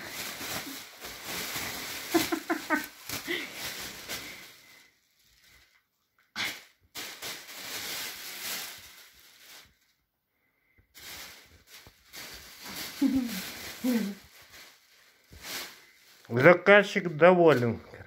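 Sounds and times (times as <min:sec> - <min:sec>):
plastic bag rustling: 0:00.0 - 0:10.0, 0:10.8 - 0:17.8.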